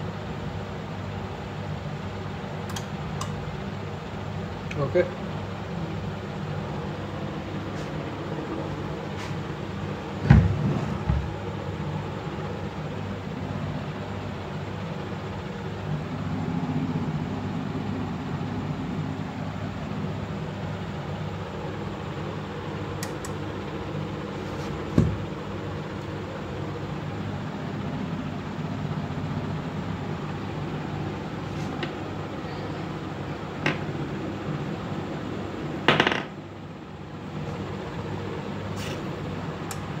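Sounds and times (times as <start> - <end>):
low machine hum: 0.0 - 40.0.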